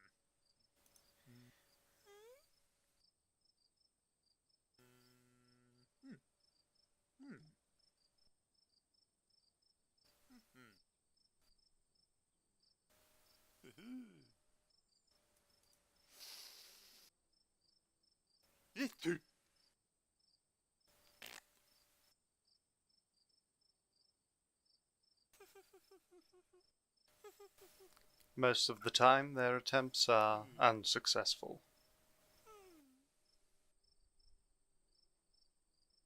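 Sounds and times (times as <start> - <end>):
faint cricket chirping: 0.0 - 30.8, 31.4 - 36.0.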